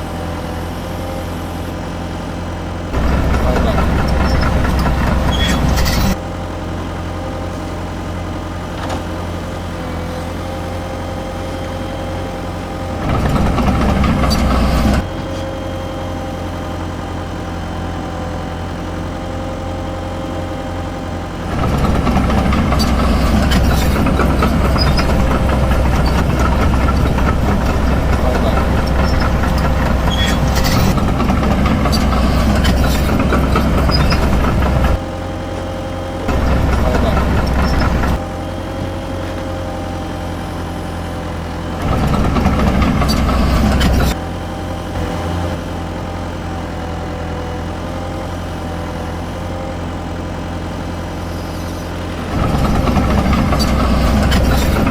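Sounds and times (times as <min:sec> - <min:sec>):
model excavators humming: 0:00.0 - 0:54.9.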